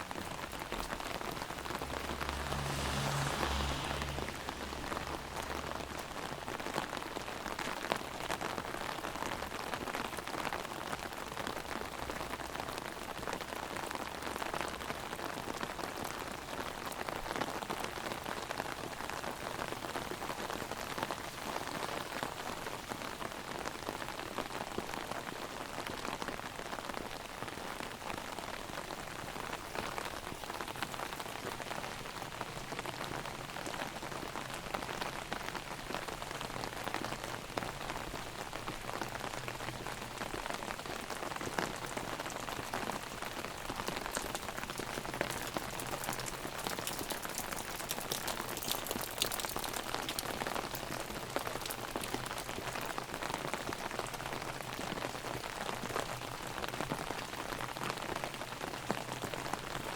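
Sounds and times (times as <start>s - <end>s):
heavy rain on umbrella: 0.0s - 59.9s.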